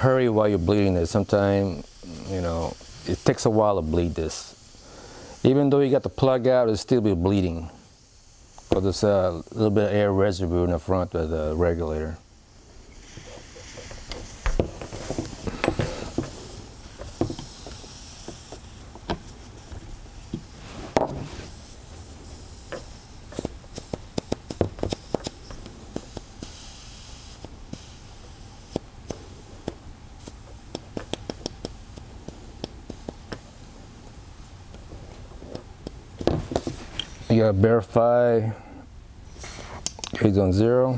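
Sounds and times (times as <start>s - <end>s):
air hissing from rifle: 0.5s - 5.8s, 7.4s - 9.7s, 11.2s - 37.3s, 39.2s - 39.9s.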